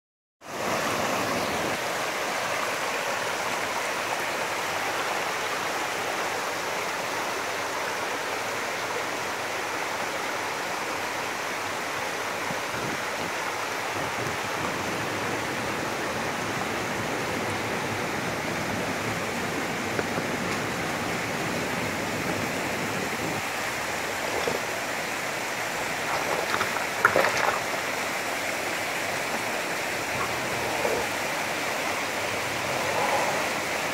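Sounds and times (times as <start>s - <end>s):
stream rushing over rocks: 0.4s - 33.9s.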